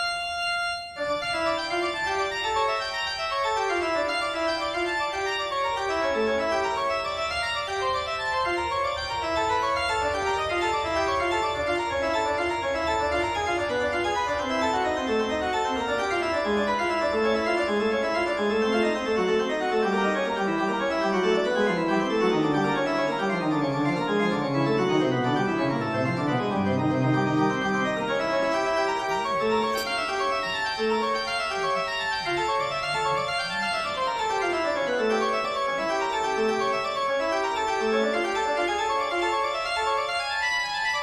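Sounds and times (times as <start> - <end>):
organ music fast runs: 1.0 - 41.0.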